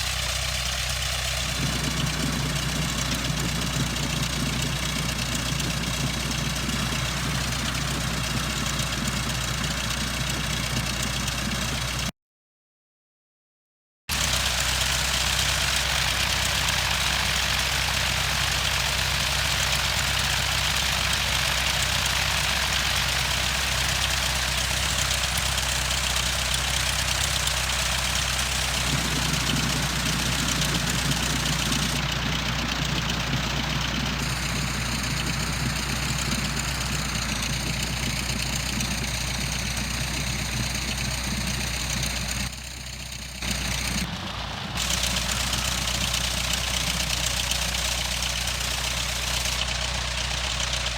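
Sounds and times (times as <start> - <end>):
aircraft engine idling: 0.0 - 12.1, 14.1 - 50.9.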